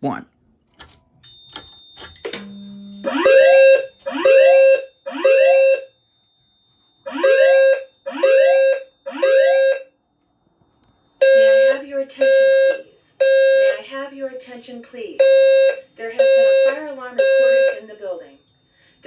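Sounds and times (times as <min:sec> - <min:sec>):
fire alarm tones: 0:01.2 - 0:10.0, 0:11.2 - 0:14.1, 0:15.2 - 0:19.0.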